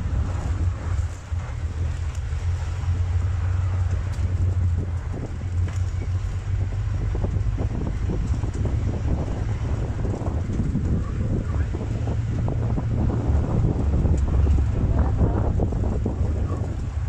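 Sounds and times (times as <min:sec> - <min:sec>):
engine and road rumble: 0:00.0 - 0:17.0
wind noise on microphone: 0:00.0 - 0:17.0.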